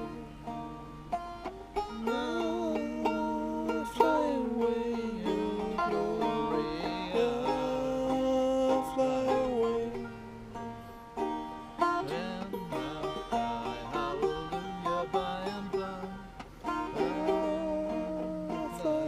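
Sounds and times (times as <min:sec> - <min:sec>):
banjo playing folk tune: 0:00.0 - 0:19.0.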